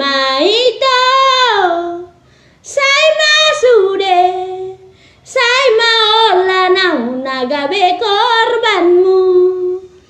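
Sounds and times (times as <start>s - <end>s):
woman singing with vibrato: 0.0s - 10.0s.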